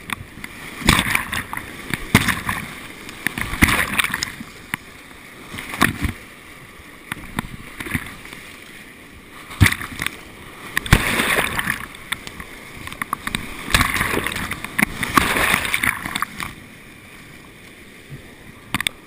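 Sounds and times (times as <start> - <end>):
paddle strokes splashing: 0.0 - 19.0
rushing white water: 0.0 - 19.0
waves breaking over boat: 0.0 - 19.0.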